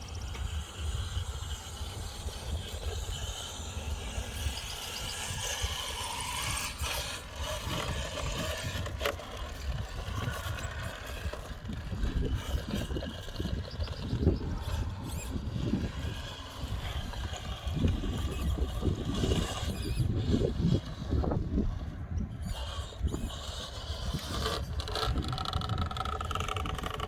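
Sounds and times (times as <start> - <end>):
radio-controlled truck motor whirring: 0.0 - 27.0.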